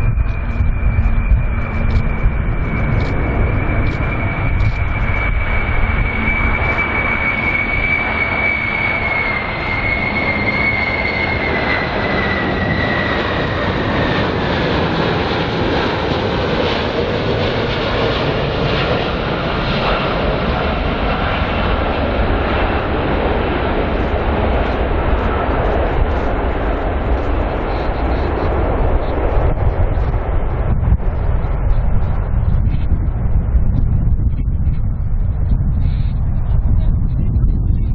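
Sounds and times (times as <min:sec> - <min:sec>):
jet engines rumbling and whining: 0:00.0 - 0:37.9.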